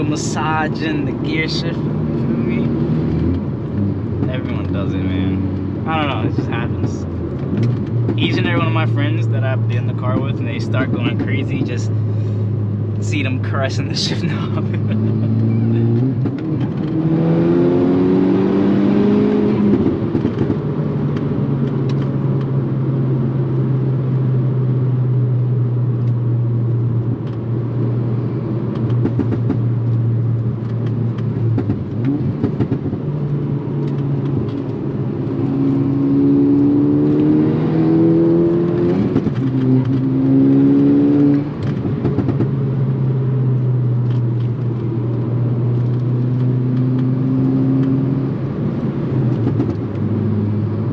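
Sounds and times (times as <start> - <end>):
turbocharged car engine revving: 0.0 - 50.9.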